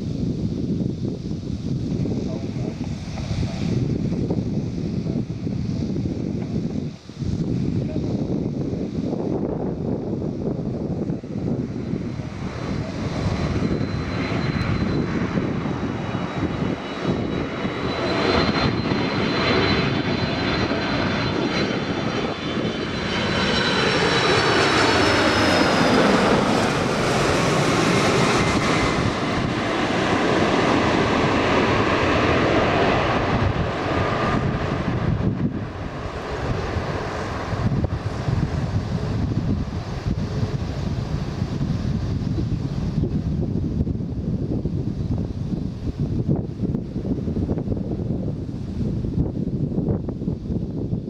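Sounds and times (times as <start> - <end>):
high fan whine: 0.0 - 51.0
jet airliner engines roaring: 0.0 - 51.0.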